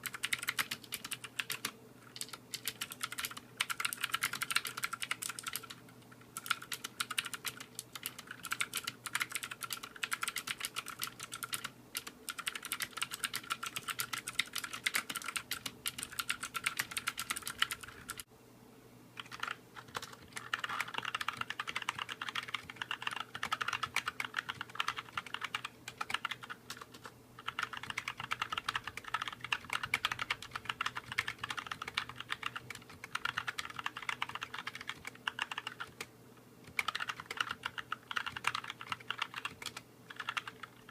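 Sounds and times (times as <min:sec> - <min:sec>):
fast typing on mechanical keyboard: 0:00.0 - 0:18.3, 0:19.2 - 0:36.1, 0:36.7 - 0:40.9.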